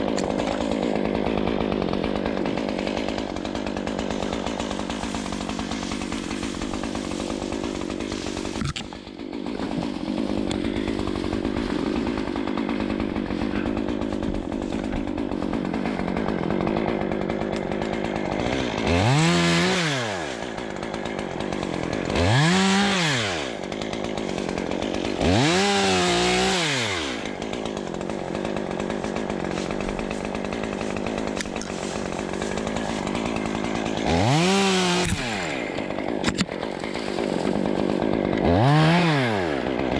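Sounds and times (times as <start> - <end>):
chainsaw idling: 0.0 - 39.9
chainsaw revving: 0.0 - 39.9.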